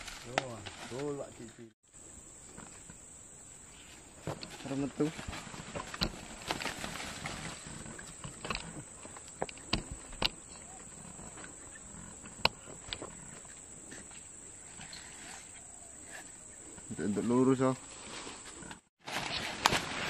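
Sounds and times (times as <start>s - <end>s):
high insect drone: 0.1s - 18.7s.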